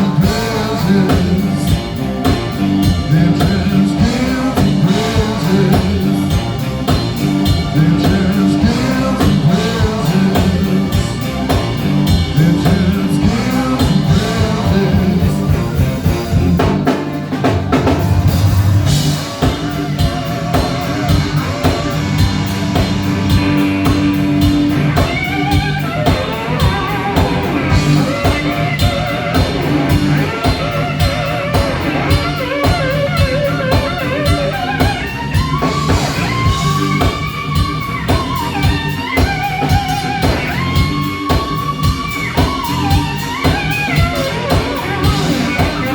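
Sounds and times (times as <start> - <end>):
bent lead guitar lines: 0.0 - 45.9
drum kit steady beat: 0.0 - 45.9
electric guitar: 0.0 - 45.9.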